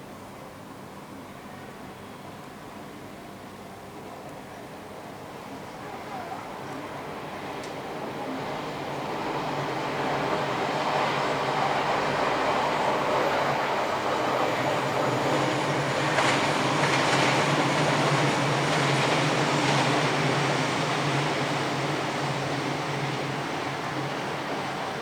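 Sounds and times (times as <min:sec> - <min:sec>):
train passing: 0:04.7 - 0:25.0.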